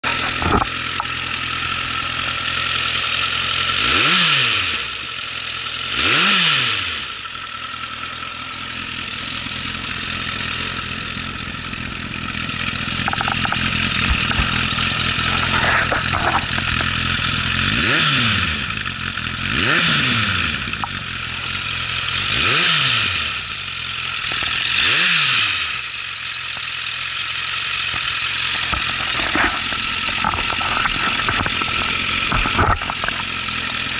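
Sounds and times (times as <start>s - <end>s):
motorcycle engine revving and idling: 0.0s - 33.9s.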